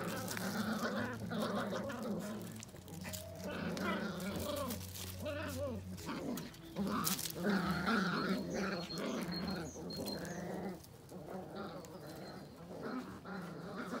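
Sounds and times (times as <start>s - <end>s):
puppies growling and whining: 0.0s - 14.0s.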